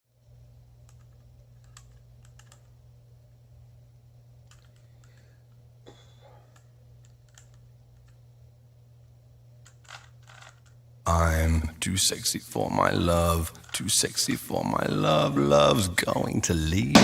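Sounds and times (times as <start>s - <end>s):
low electrical hum: 0.1s - 17.0s.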